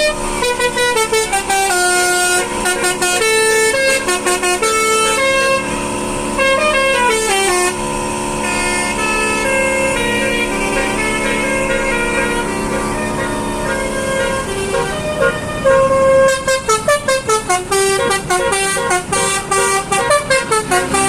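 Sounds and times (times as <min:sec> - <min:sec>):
car air horn playing melody: 0:00.0 - 0:21.0
steady low drone: 0:00.0 - 0:21.0.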